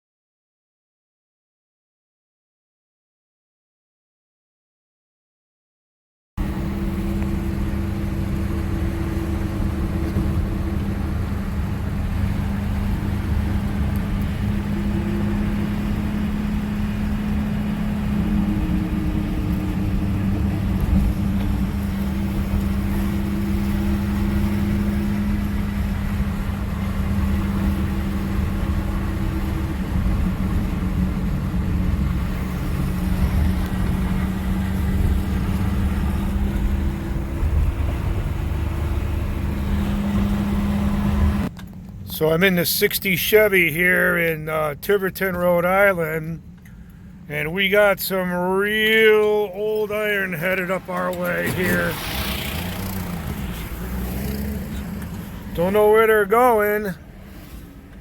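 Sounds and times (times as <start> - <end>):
car engine and road noise: 6.4 - 58.0.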